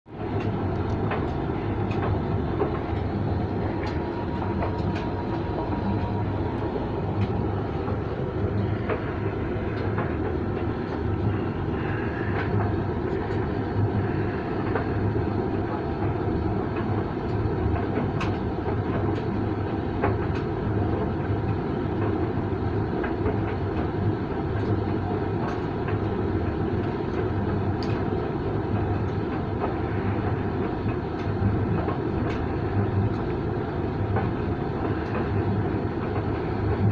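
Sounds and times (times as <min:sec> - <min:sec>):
tumble dryer drum rumbling: 0:00.1 - 0:36.9.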